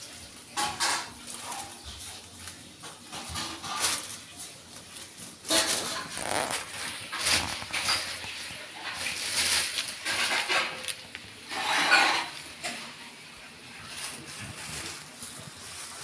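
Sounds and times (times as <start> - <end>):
plastic bag crinkling: 1.1 - 16.0.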